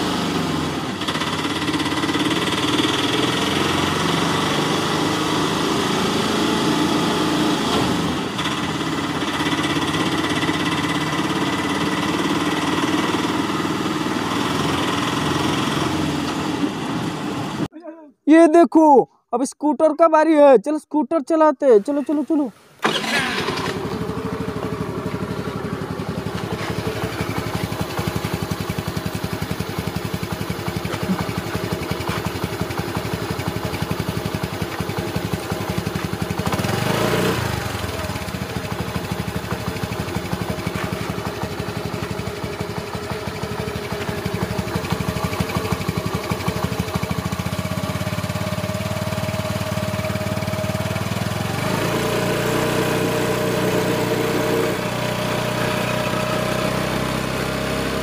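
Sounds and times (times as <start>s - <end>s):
motorbike engine sound effect: 0.0s - 17.7s, 22.2s - 58.0s.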